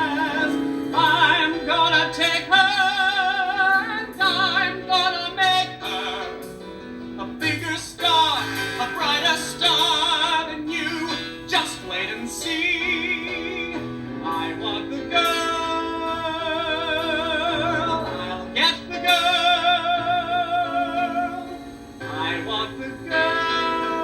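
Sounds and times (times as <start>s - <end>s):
instrumental accompaniment: 0.0s - 24.0s
person singing with vibrato: 0.0s - 24.0s.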